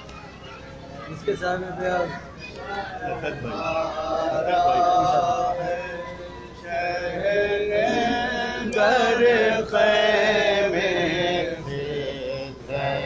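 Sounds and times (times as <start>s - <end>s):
men chanting a lament: 1.8s - 13.0s.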